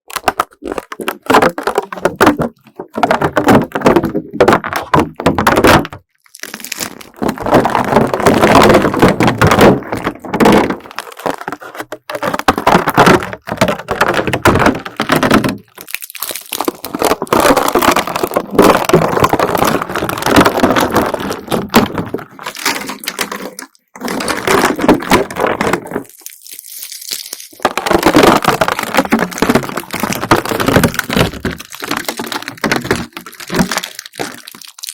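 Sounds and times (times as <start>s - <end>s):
dried slime peeling crackle: 6.1s - 34.9s.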